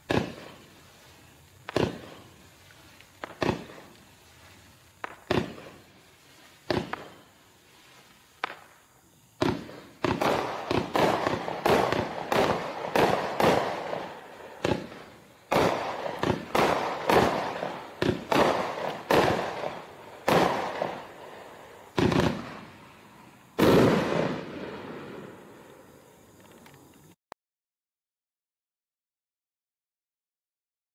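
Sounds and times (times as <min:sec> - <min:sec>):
fireworks bangs: 0:00.0 - 0:27.1
fireworks crackle: 0:00.0 - 0:27.2.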